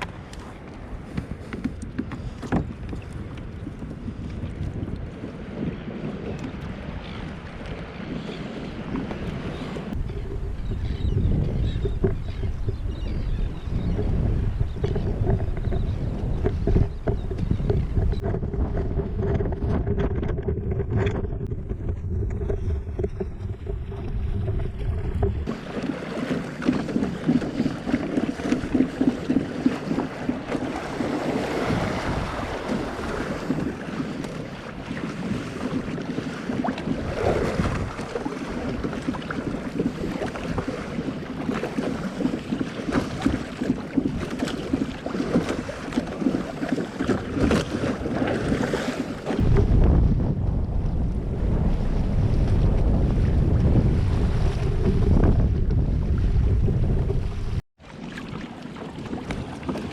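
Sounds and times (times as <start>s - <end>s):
wind buffeting microphone: 0.0s - 57.6s
water rushing along hull: 0.0s - 59.9s.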